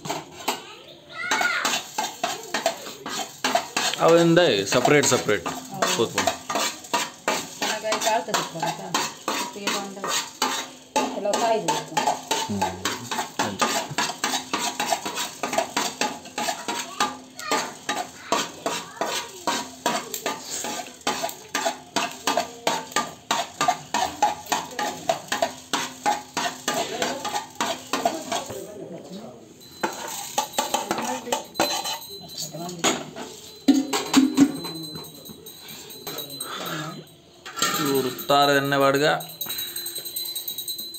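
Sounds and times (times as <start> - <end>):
food frying: 0.0 - 34.4
metal spoon scraping cooking pan: 0.0 - 39.8.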